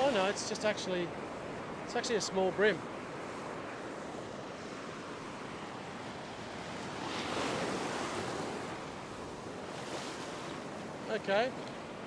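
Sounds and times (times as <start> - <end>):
ocean surf washing over sand: 0.0 - 12.0.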